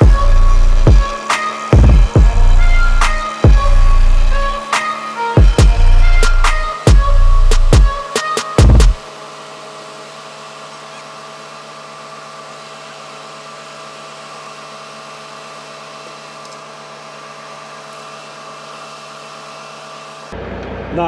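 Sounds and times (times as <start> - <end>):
machine whirring: 0.0 - 20.4.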